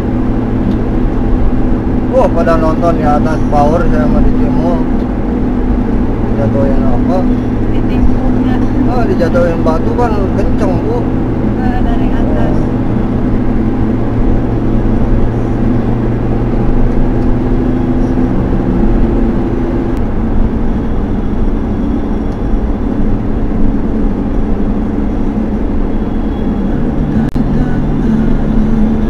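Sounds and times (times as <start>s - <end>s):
low engine hum: 0.0s - 29.0s
road and tyre noise: 0.0s - 29.0s.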